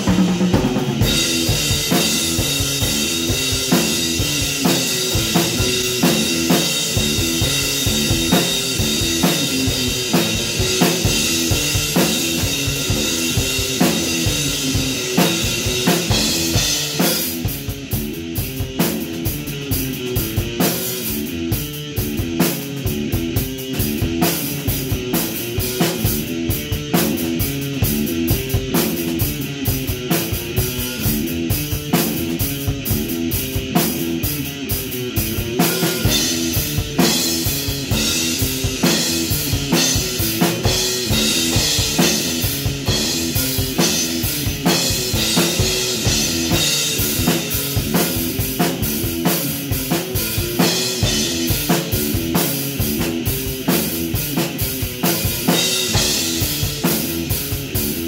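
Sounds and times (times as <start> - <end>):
drum kit beat: 0.0 - 58.0
electric guitar rock riff: 0.0 - 58.0.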